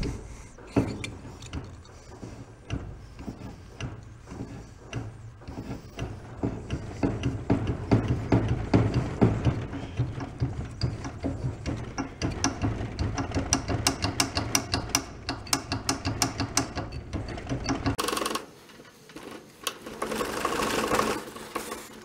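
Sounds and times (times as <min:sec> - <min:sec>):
metallic clicking and clunking of engine: 0:00.0 - 0:22.0.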